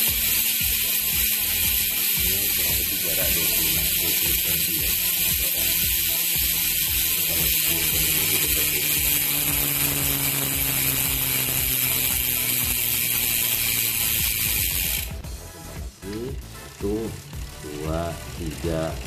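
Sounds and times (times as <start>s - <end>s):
bicycle freehub ticking: 0.0s - 15.2s, 16.1s - 19.0s.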